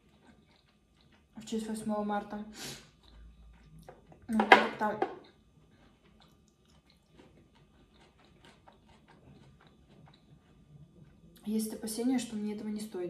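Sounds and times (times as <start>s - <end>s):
faint chewing: 0.0s - 12.4s.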